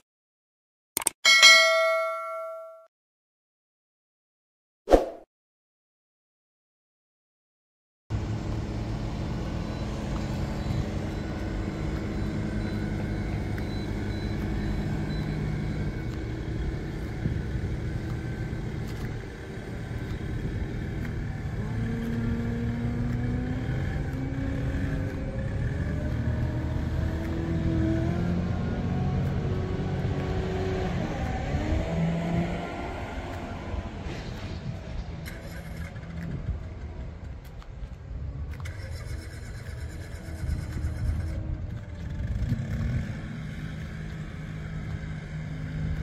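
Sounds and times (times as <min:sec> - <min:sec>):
motor vehicle engine running: 0:08.1 - 0:46.0.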